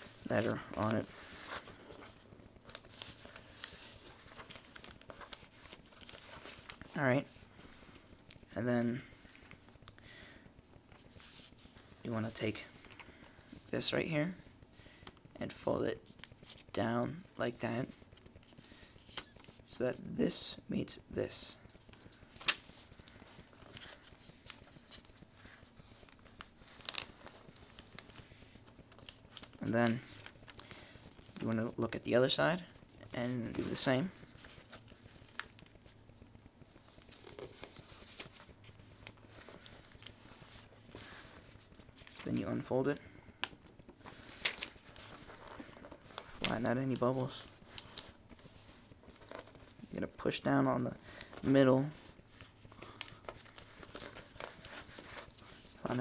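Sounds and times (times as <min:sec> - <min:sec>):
paper rustling and crinkling: 0:00.0 - 0:10.0, 0:10.7 - 0:14.0, 0:15.0 - 0:19.8, 0:21.6 - 0:56.0.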